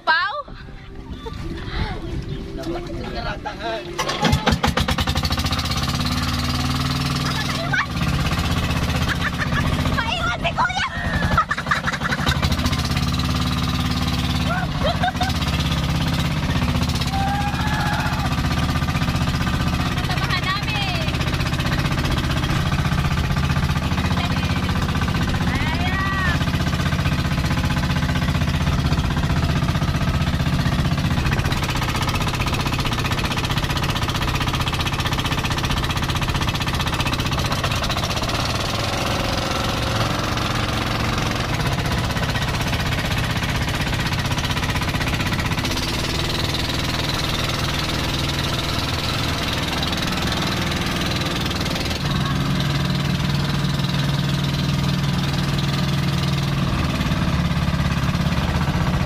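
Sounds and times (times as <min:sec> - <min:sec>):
diesel boat engine clatter: 0:00.0 - 0:59.0.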